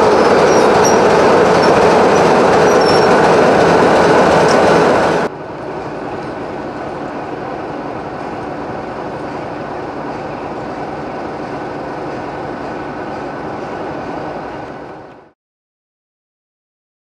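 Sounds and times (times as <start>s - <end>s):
diesel locomotive idling: 0.0s - 15.1s.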